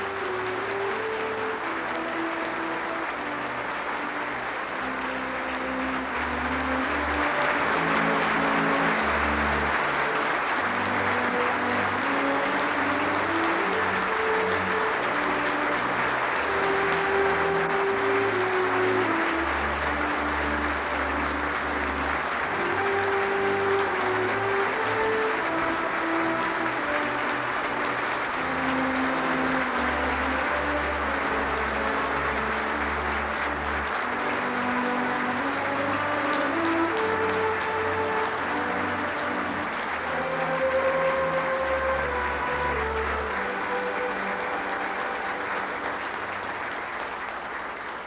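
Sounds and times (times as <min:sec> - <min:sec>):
band music: 0:00.0 - 0:47.0
audience applause: 0:00.0 - 0:48.0.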